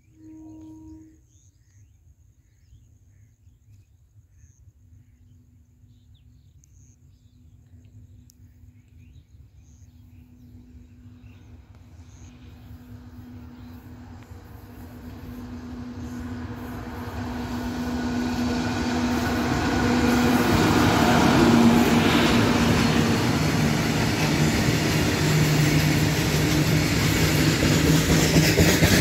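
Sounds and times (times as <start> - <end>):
electric locomotive rumble and hum: 0.0 - 3.3, 4.2 - 29.0.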